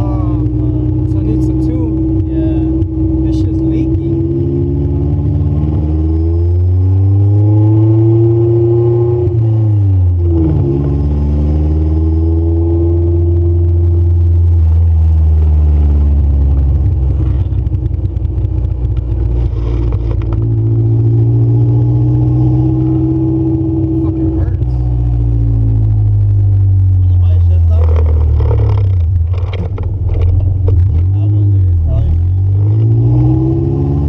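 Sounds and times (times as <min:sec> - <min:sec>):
car engine revving while driving: 0:00.0 - 0:34.0.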